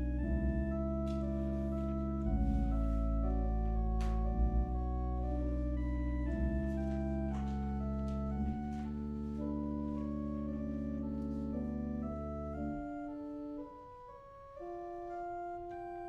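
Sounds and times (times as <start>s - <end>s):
deep held organ bass note: 0.0s - 13.2s
organ playing sustained chords: 0.0s - 16.0s.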